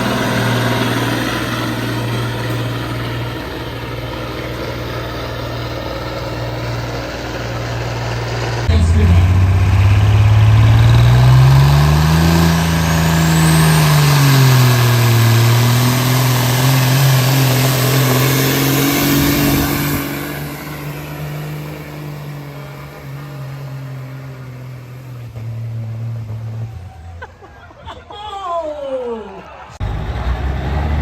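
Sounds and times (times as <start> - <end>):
truck engine under load: 0.0 - 28.2, 29.4 - 31.0.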